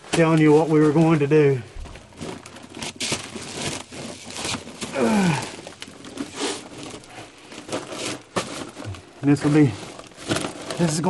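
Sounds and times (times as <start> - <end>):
plastic crinkling and scuffing: 0.0 - 11.0.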